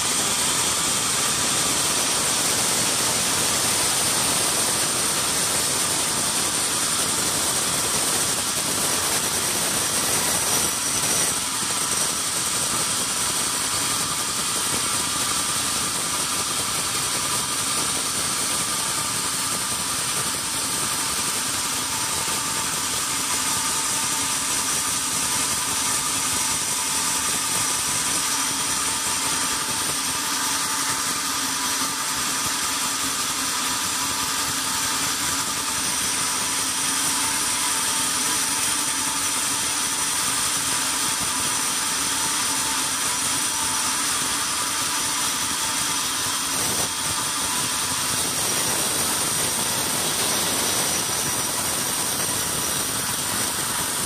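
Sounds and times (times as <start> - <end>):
band sawmill whine: 0.0 - 54.0
saw blade cutting log: 0.0 - 54.0.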